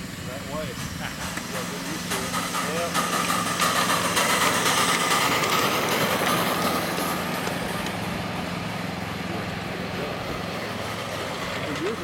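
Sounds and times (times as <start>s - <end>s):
miniature train running on track: 0.0s - 12.0s.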